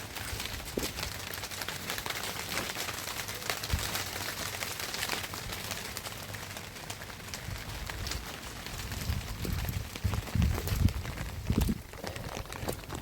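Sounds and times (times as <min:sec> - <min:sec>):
raindrops pattering on a surface: 0:00.0 - 0:13.0.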